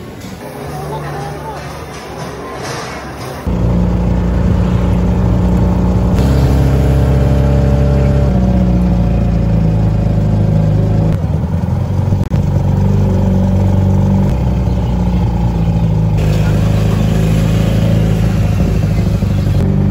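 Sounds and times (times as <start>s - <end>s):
auto rickshaw engine running: 3.4s - 19.9s.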